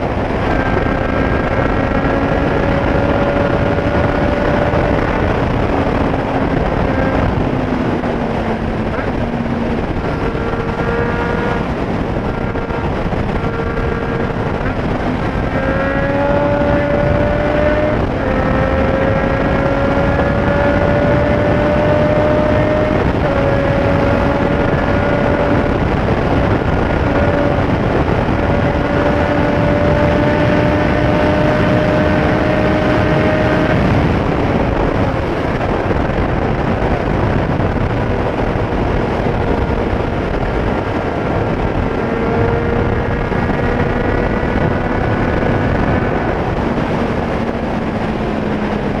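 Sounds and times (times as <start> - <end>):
motorcycle engine running: 0.0 - 49.0
wind rush on microphone: 0.0 - 49.0.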